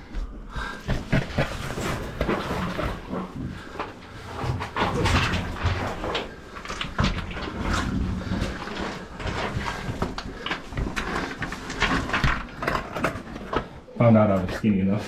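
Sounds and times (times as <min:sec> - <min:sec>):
gear scraping against rock: 0:01.0 - 0:13.8.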